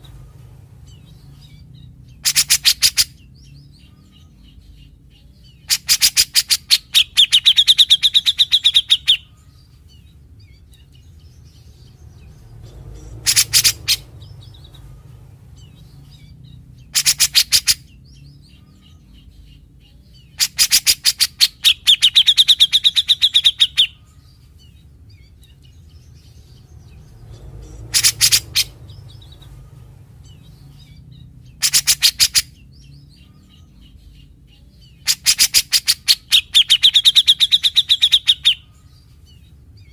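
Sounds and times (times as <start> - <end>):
bird calling in rasping bursts: 0.9 - 4.8, 5.6 - 10.1, 12.4 - 39.9.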